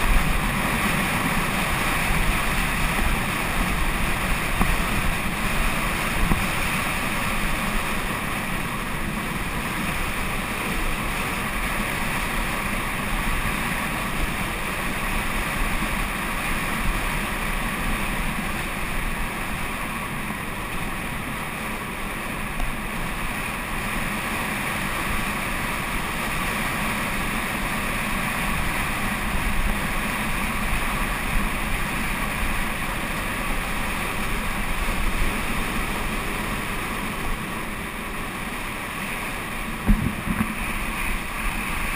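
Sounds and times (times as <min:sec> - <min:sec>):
wind on microphone: 0:00.0 - 0:41.9.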